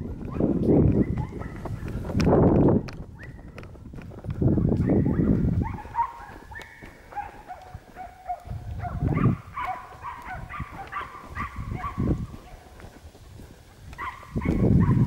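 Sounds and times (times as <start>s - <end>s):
footsteps crunching through dry scrub: 0.0s - 15.0s
dogs barking in high yelps: 0.2s - 2.2s, 4.5s - 15.0s.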